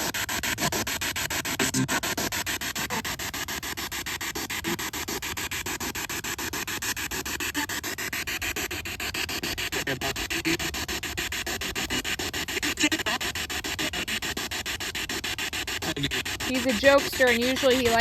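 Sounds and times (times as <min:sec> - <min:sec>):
pulsing radio static: 0:00.0 - 0:18.0.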